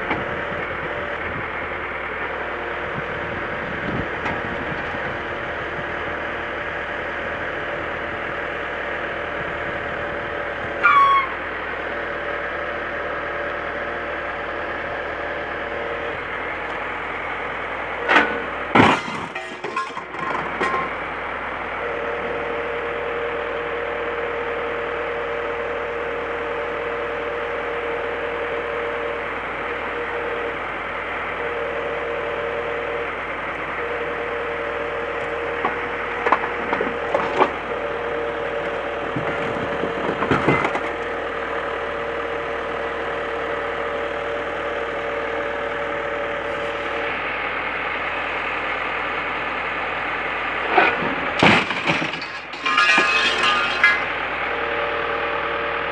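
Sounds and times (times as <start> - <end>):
crane engine and hydraulics whine: 0.0 - 55.9.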